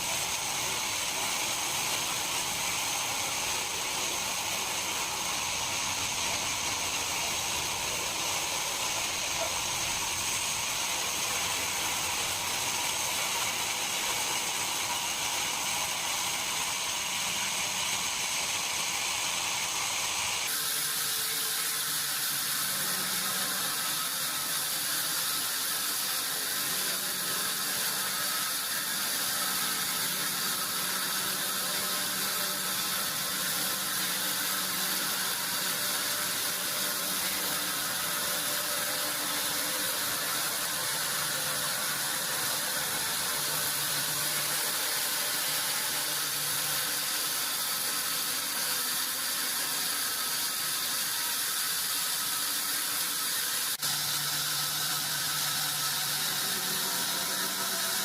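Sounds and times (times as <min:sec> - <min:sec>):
sawmill machinery hissing and whining: 0:00.0 - 0:58.0.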